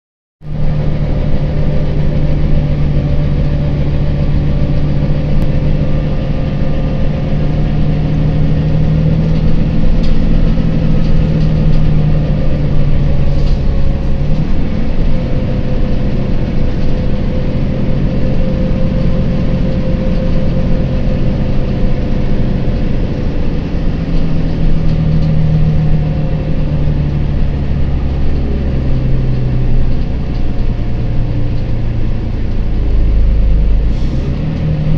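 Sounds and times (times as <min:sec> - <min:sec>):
bus diesel engine running: 0:00.4 - 0:34.9.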